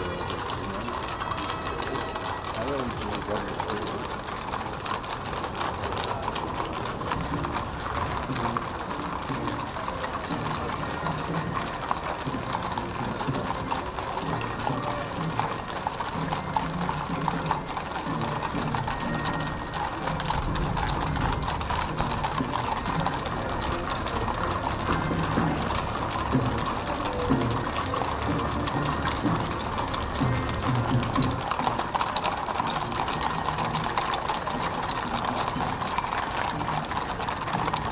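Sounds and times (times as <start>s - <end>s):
horse hooves on asphalt: 0.0s - 37.9s.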